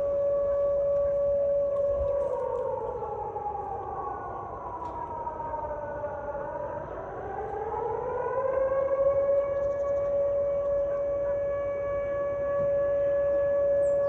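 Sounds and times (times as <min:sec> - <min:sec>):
civil defense siren wailing: 0:00.0 - 0:14.0.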